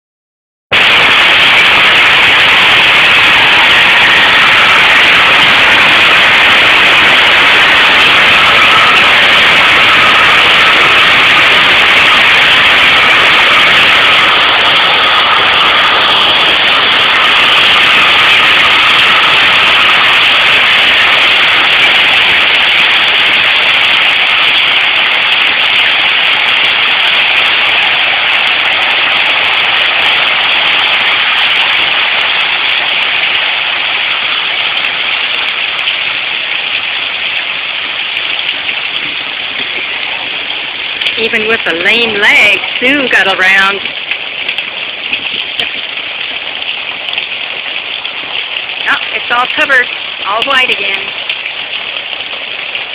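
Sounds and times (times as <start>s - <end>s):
hail and heavy rain pelting: 0.7s - 52.9s.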